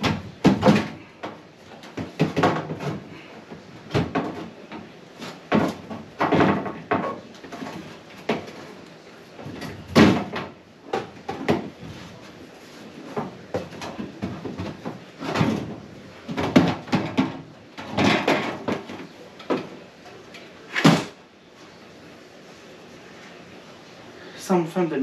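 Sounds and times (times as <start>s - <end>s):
refrigerator parts knocking and clattering: 0.0s - 21.2s.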